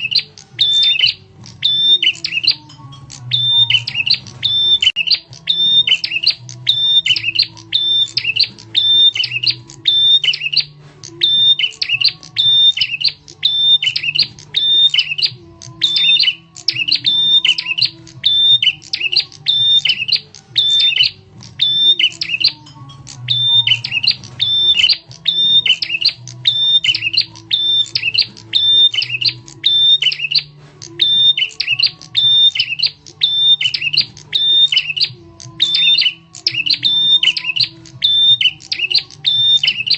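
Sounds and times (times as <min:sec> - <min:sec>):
bird sharp repeated call: 0:03.2 - 0:39.9.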